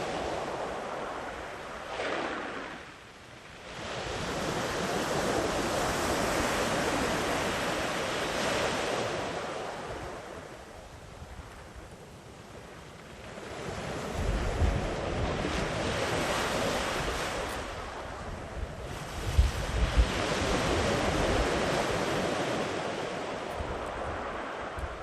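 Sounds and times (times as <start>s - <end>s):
sea waves washing onto beach: 0.0s - 25.0s
wind rumble on microphone: 0.0s - 25.0s.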